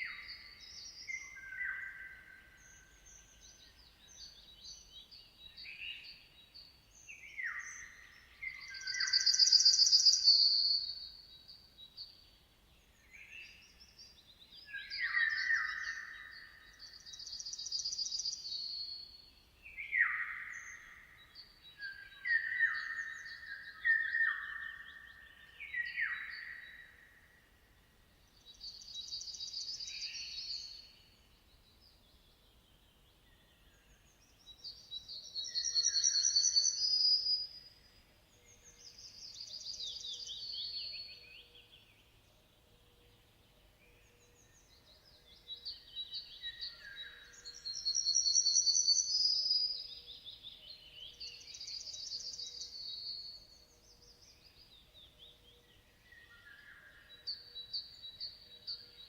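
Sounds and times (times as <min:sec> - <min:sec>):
songbird trills and chirps: 0:00.0 - 0:59.0.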